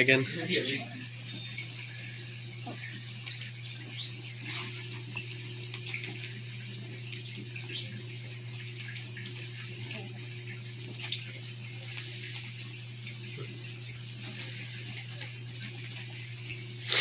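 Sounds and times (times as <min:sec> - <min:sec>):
puppies suckling: 0:00.0 - 0:17.0.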